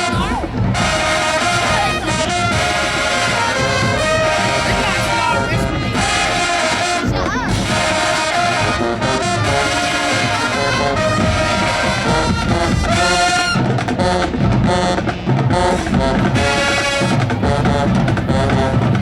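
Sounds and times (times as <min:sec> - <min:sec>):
drums: 0:00.0 - 0:19.0
marching band brass: 0:00.0 - 0:19.0.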